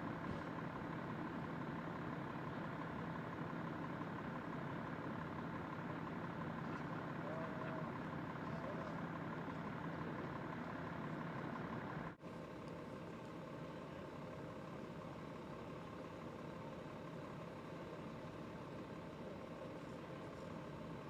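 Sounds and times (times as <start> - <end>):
vehicle engines idling: 0.0 - 21.0.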